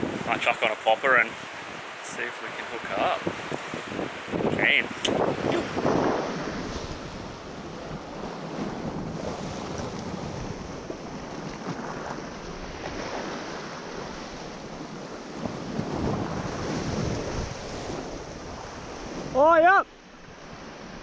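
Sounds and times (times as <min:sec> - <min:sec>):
sea waves washing: 0:00.0 - 0:21.0
wind buffeting microphone: 0:00.0 - 0:21.0.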